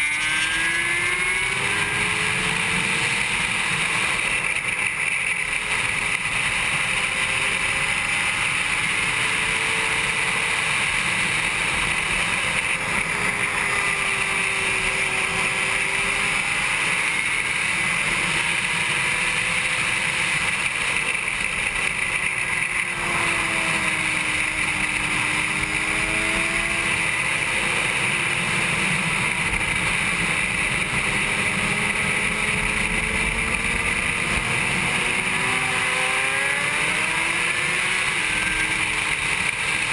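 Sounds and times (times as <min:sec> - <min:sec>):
motorcycle engine at racing speed: 0:00.0 - 0:39.9.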